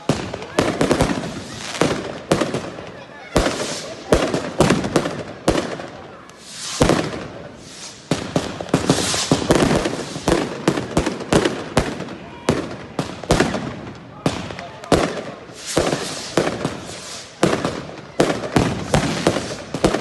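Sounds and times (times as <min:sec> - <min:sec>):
fireworks banging: 0:00.0 - 0:20.0
fireworks crackling hiss: 0:00.0 - 0:20.0.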